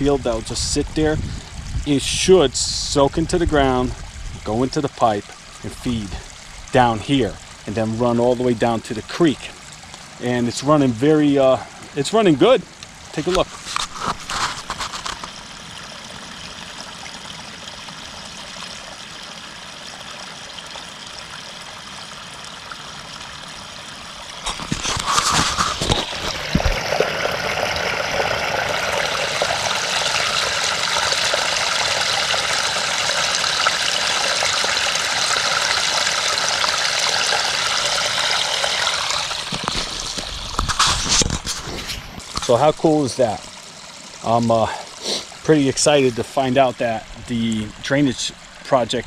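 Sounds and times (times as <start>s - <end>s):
water rushing into drainage pipe: 0.0s - 49.0s.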